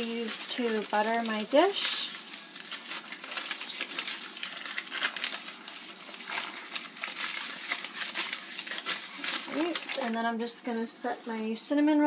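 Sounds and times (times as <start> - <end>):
paper rubbing against glass dish: 0.0 - 10.1.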